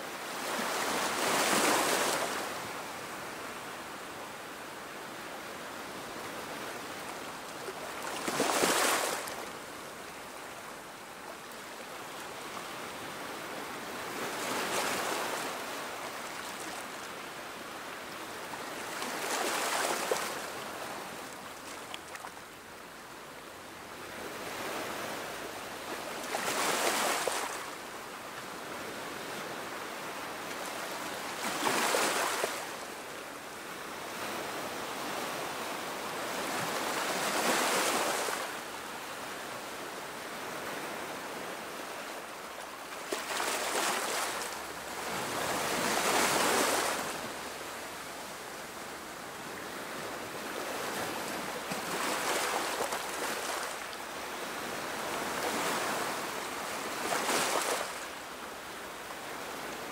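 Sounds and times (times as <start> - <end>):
small waves lapping on beach: 0.0 - 59.9.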